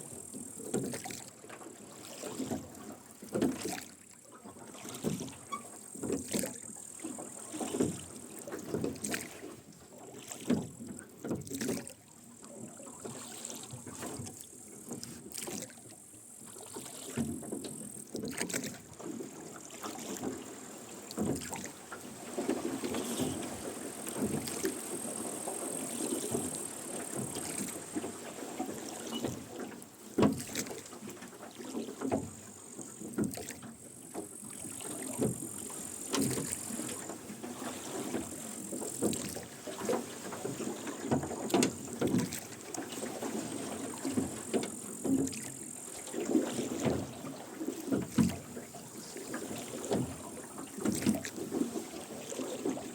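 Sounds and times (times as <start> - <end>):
oars splashing: 0.0 - 52.9.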